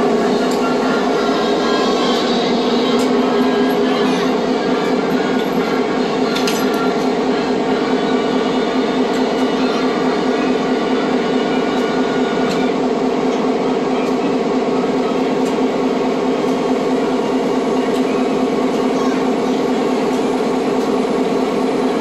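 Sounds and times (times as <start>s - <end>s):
diesel locomotive engine idling: 0.0s - 22.0s.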